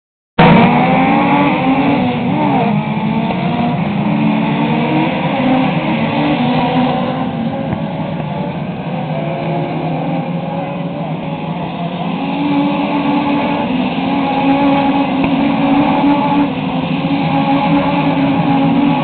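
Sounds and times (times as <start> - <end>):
race car engines rising and falling: 0.4 - 19.0.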